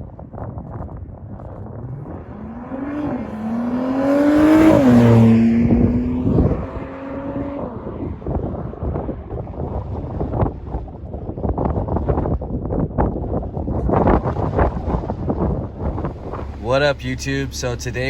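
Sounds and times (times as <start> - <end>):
car engine accelerating: 0.8 - 18.0.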